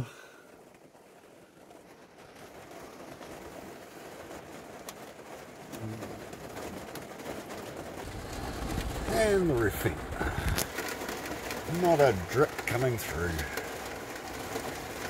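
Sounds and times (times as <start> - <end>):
heavy rain pouring: 0.0 - 15.0
raindrop ticks: 0.2 - 15.0.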